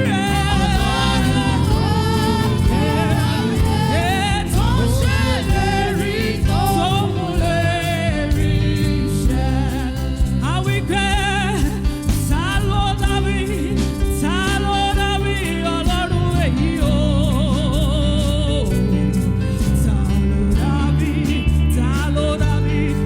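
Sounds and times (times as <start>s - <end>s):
band playing a steady beat: 0.0s - 23.0s
person singing with vibrato: 0.0s - 23.0s.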